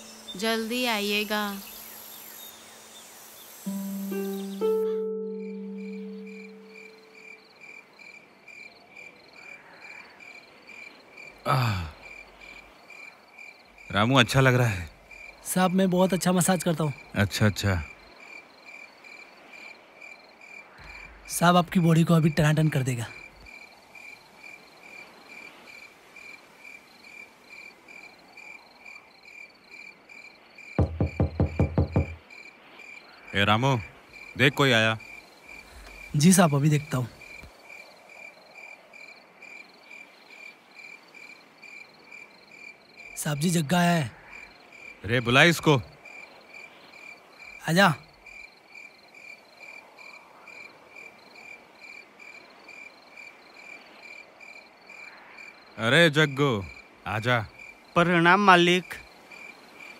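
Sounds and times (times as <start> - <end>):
faint hiss: 0.0 - 8.0, 13.8 - 59.9
cricket chirping: 0.0 - 59.9.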